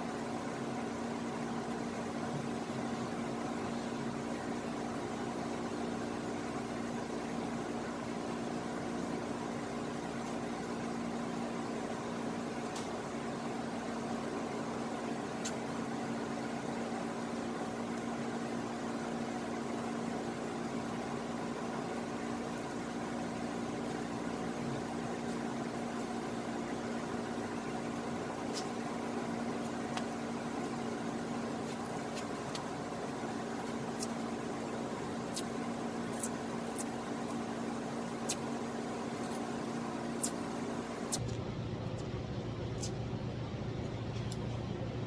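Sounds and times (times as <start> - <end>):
electric fan humming: 0.0 - 45.0.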